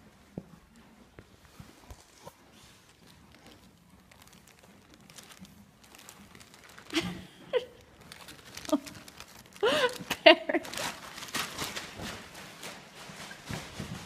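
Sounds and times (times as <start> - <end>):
plastic bag crinkling: 2.0 - 14.0.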